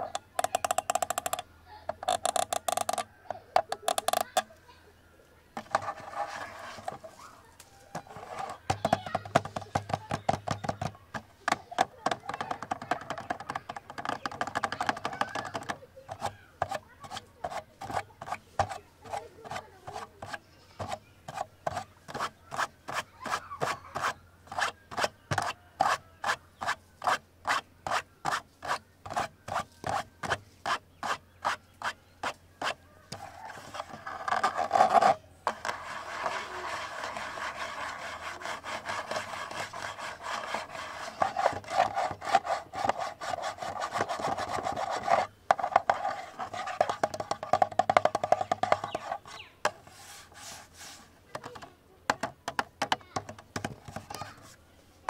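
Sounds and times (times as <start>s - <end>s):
scratching on a camera body: 0.0s - 4.5s, 5.6s - 54.6s.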